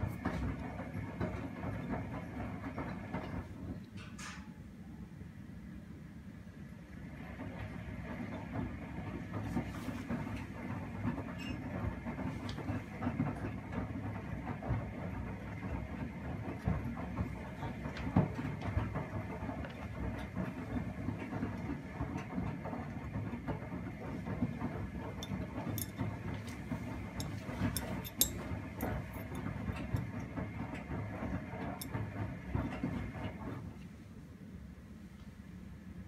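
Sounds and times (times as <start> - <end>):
washing machine drum motor running: 0.0 - 4.4, 6.6 - 34.7
quiet machine hum: 0.0 - 36.0.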